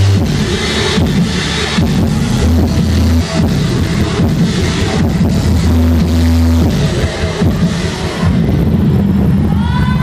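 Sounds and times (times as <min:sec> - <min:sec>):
dance music with heavy bass: 0:00.0 - 0:10.0.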